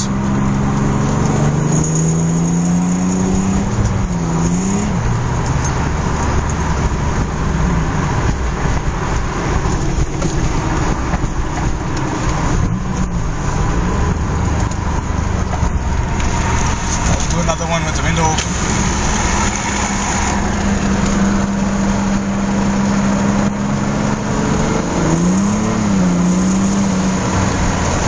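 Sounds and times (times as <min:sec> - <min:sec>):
engine rattle: 0:00.0 - 0:25.8
turbo car engine pulling hard: 0:00.0 - 0:28.0.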